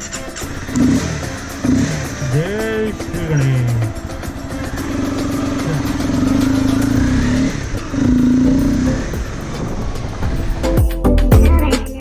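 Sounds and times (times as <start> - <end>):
motorcycle engine under throttle: 0.0 - 10.6.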